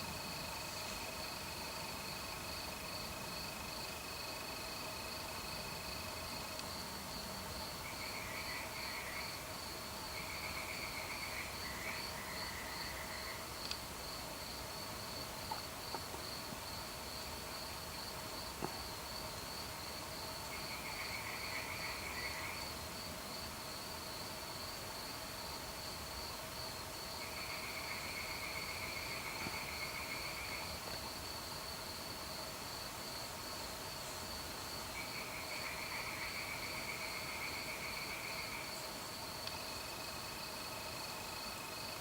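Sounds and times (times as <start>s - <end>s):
cricket chirping steadily: 0.0s - 42.0s
cricket trills: 0.0s - 42.0s.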